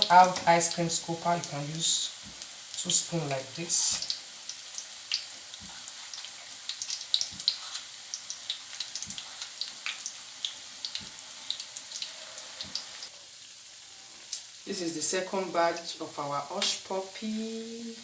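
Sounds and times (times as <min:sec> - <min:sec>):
batter frying in hot oil: 0:00.0 - 0:18.0.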